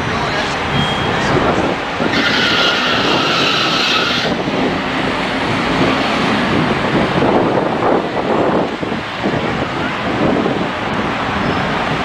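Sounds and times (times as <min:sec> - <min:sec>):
bus driving past: 0:00.0 - 0:12.0.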